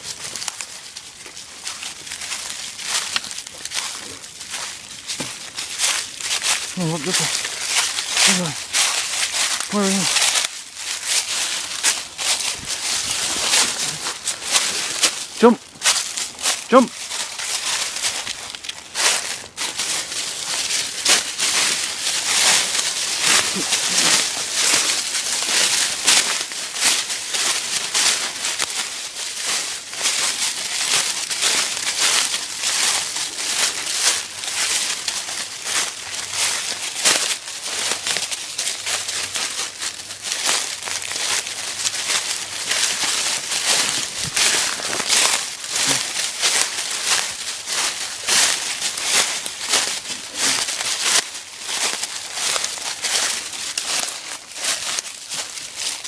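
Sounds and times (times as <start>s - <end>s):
footsteps crunching dry leaves: 0.0s - 56.0s.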